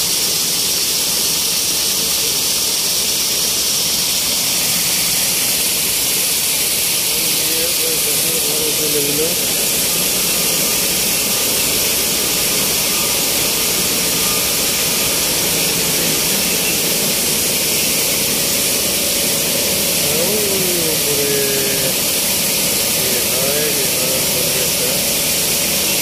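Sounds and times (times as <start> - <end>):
grinding mill machinery hissing: 0.0 - 26.0.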